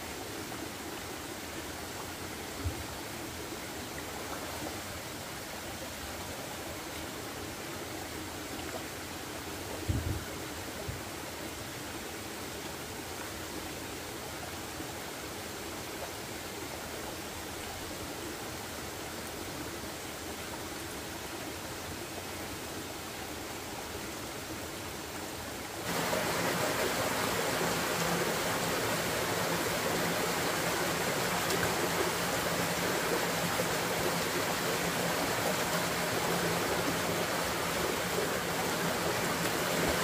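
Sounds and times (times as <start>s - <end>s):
stream rushing over rocks: 0.0s - 40.0s.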